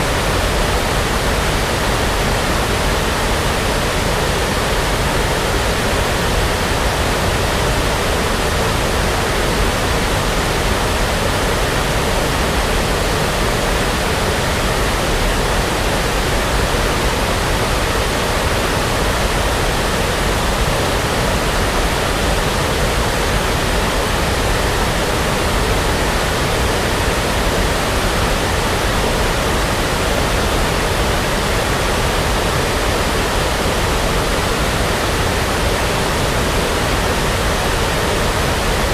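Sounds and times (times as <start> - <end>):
brown noise hiss: 0.0 - 38.9.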